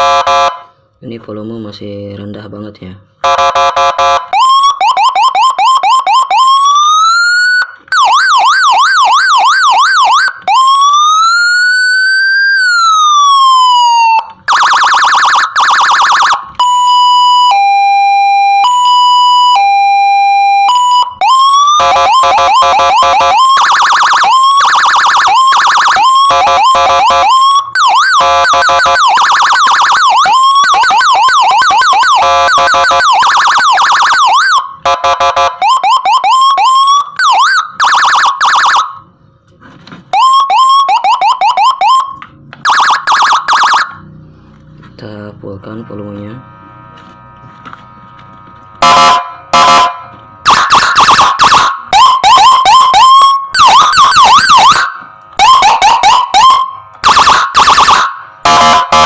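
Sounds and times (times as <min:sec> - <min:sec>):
electronic siren tones: 0:03.2 - 0:39.2, 0:40.1 - 0:59.0.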